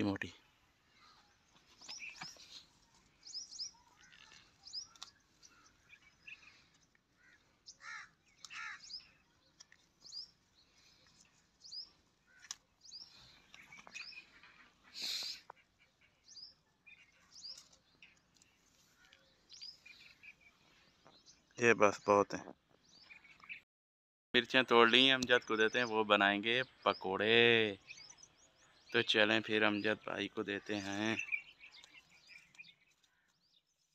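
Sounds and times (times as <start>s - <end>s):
small birds chirping: 0.0s - 23.6s, 24.4s - 33.9s.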